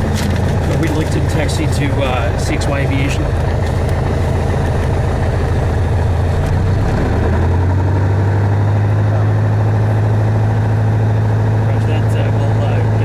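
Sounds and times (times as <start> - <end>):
propeller plane engine hum: 0.0 - 13.0.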